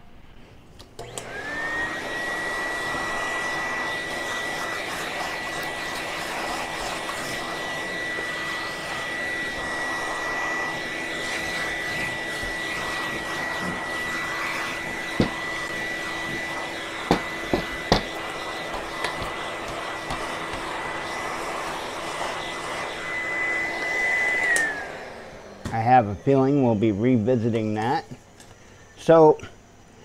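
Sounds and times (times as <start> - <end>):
vacuum cleaner motor whine: 0.8 - 29.2.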